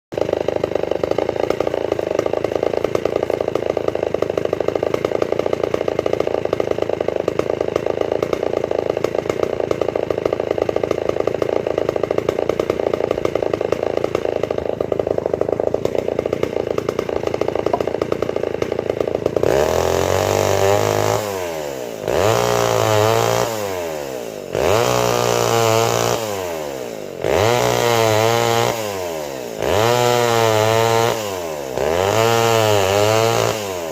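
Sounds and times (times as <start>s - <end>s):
chainsaw engine revving: 0.1s - 33.9s.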